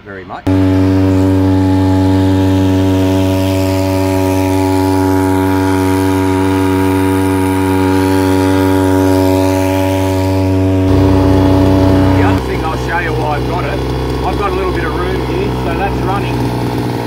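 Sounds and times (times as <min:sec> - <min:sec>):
outboard motor running: 0:00.5 - 0:17.0.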